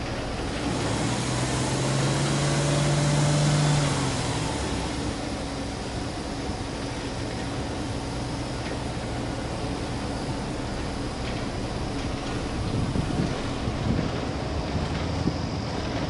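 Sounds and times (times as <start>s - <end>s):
car engine revving from idle: 0.0s - 14.2s.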